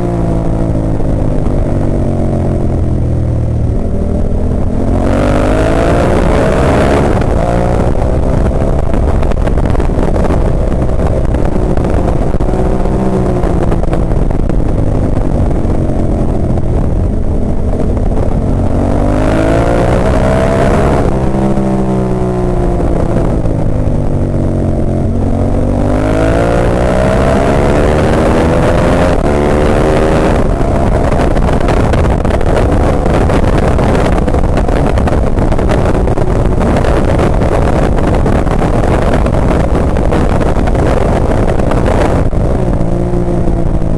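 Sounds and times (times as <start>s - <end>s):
motorcycle engine revving: 0.0s - 43.9s
rushing wind: 0.0s - 43.9s.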